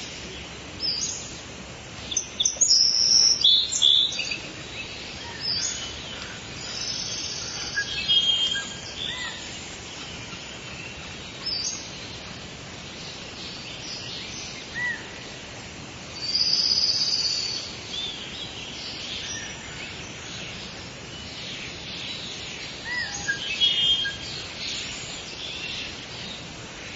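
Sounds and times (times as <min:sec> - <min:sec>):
bird calls and chirps: 0:00.0 - 0:15.5, 0:16.1 - 0:26.9
high insect hiss: 0:00.0 - 0:26.9.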